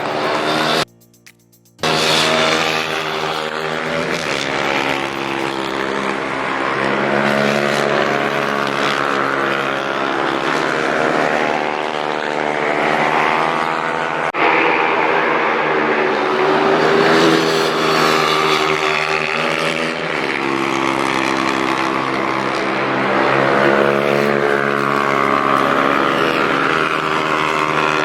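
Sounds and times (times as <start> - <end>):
racing motorcycle engines: 0.0 - 0.9, 1.8 - 28.0.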